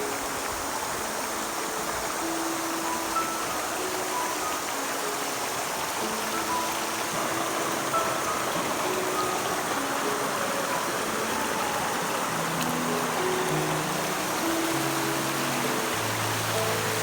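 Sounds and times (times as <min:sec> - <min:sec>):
river rushing: 0:00.0 - 0:17.0
soft background music: 0:00.0 - 0:17.0.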